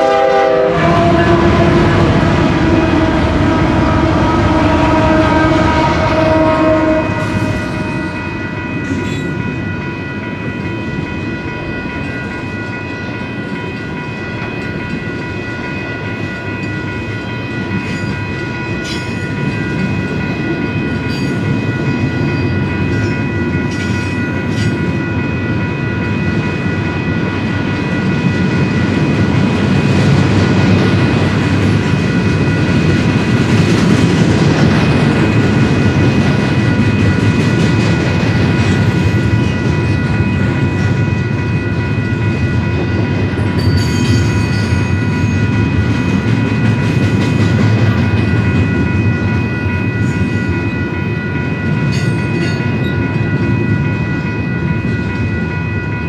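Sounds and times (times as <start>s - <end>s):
freight train rumbling past: 0.0s - 56.0s
steady high-pitched tones: 0.0s - 56.0s.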